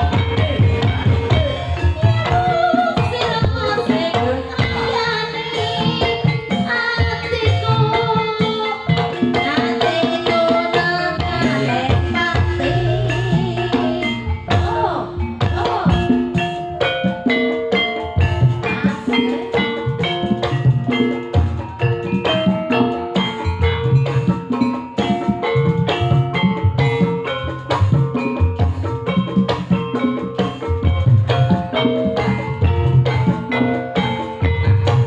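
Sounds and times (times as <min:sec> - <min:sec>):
hand drums: 0:00.0 - 0:35.0
gamelan metal keys ringing: 0:04.6 - 0:35.0.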